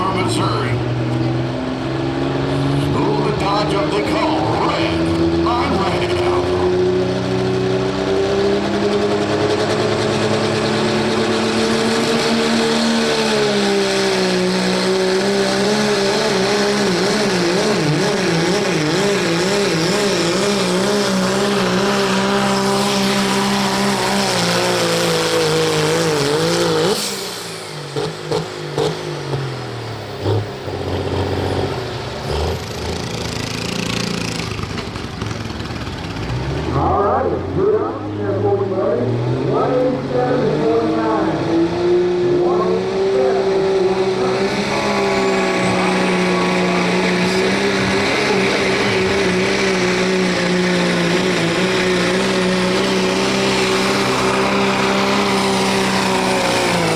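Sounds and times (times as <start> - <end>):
diesel engine at full throttle: 0.0 - 56.9
engine revving: 0.0 - 56.9.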